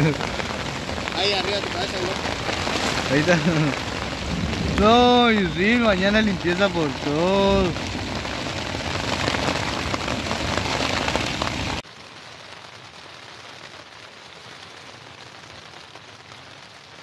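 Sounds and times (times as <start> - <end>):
hailstones clicking: 0.0 - 17.0
heavy rain hissing: 0.0 - 17.0.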